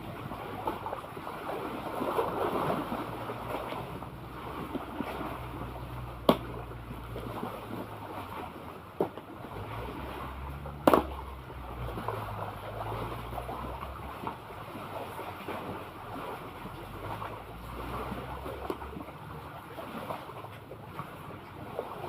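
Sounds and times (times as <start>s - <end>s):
sea water: 0.0s - 22.0s.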